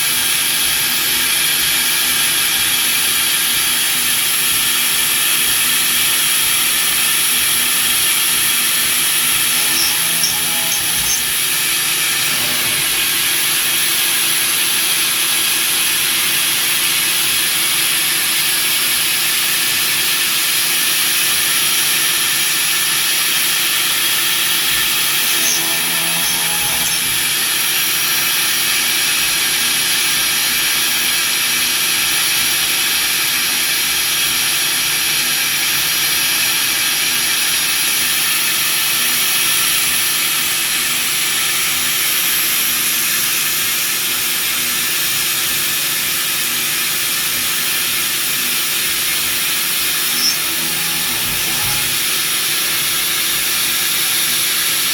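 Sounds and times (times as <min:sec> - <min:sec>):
machine spindle hiss and whine: 0:00.0 - 0:54.9.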